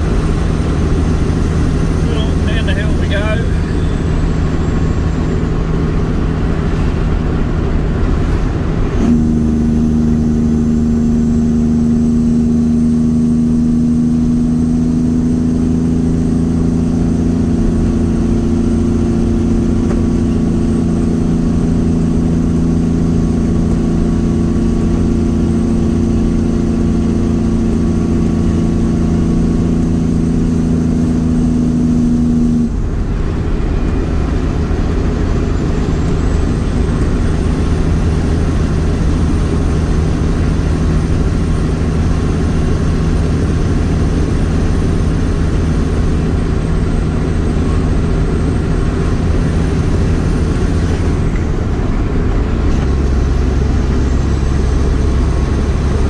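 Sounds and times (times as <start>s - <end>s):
steady engine note: 0.0s - 56.0s
truck engine running: 0.0s - 56.0s.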